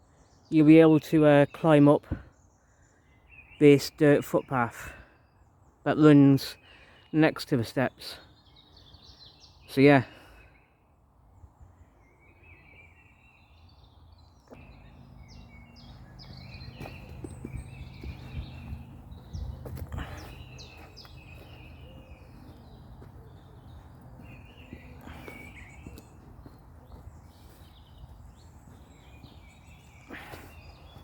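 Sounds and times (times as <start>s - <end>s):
small birds chirping and singing: 0.0s - 31.0s.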